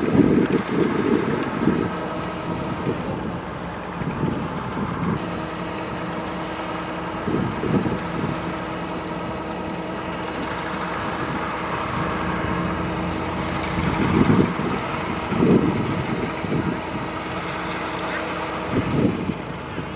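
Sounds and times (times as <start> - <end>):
combine harvester engine: 0.0 - 19.9
wind buffeting microphone: 0.0 - 19.9.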